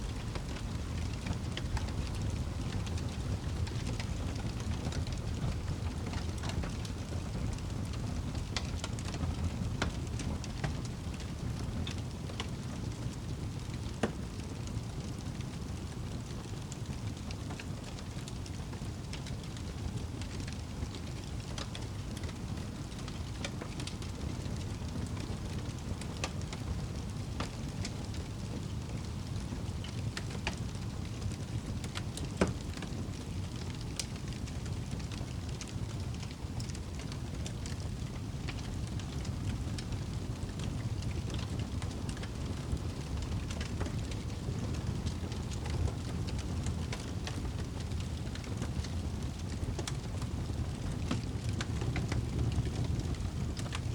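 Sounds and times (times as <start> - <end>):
campfire crackling and popping: 0.0 - 53.9
fire low rumble: 0.0 - 53.9.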